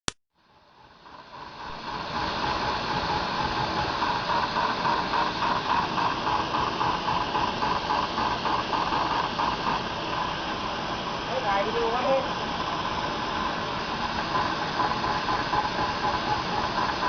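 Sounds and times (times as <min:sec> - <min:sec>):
machine hissing: 0:00.5 - 0:17.0
even mechanical pulsing: 0:00.6 - 0:17.0.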